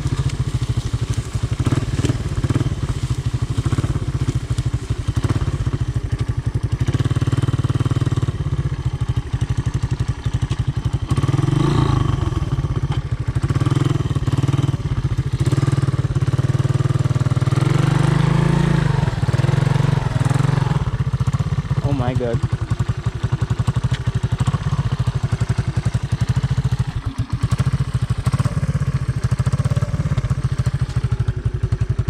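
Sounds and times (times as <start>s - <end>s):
three-wheeler engine running: 0.0s - 32.0s.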